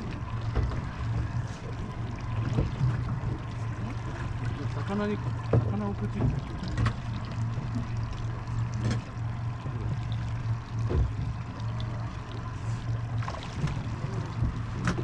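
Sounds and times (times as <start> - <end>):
boat engine idling: 0.0 - 15.0
water sloshing against hull: 0.0 - 15.0
water splashes: 0.0 - 15.0.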